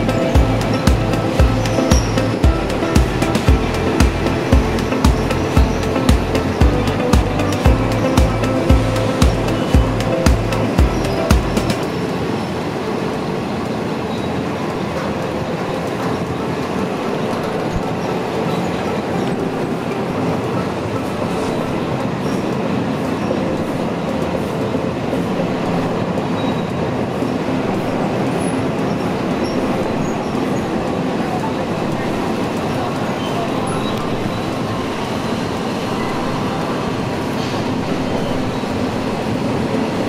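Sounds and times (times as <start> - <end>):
train wheels running on track: 0.0 - 40.0.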